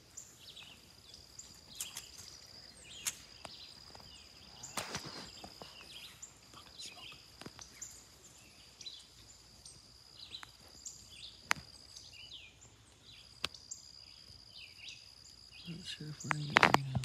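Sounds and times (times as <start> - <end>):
birds chirping: 0.0 - 17.0
high insect drone: 0.0 - 17.0.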